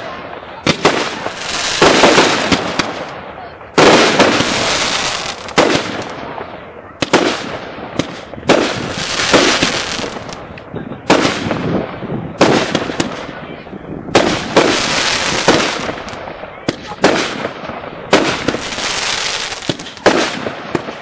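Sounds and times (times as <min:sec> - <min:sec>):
fireworks bursting with hissing tails: 0:00.0 - 0:21.0.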